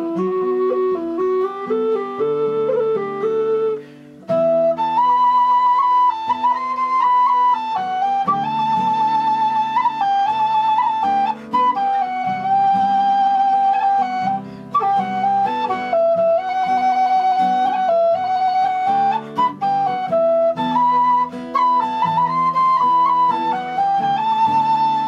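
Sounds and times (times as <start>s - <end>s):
strummed acoustic guitar: 0.0s - 25.0s
tin whistle melody: 0.0s - 25.0s.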